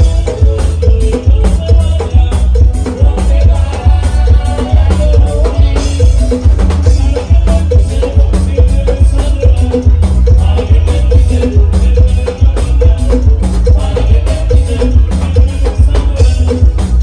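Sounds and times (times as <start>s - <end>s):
congas: 0.0s - 17.0s
latin band playing: 0.0s - 17.0s.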